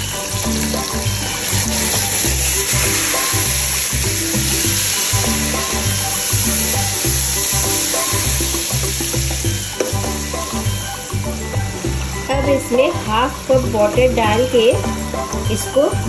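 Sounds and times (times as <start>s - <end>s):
background music with bass beat: 0.0s - 16.0s
vegetables sizzling in hot oil: 0.0s - 16.0s.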